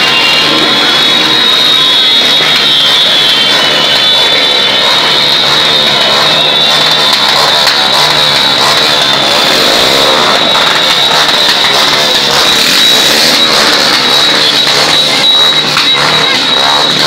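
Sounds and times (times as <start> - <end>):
many motorcycle engines: 0.0 - 17.0
steady thin high tone: 0.0 - 17.0.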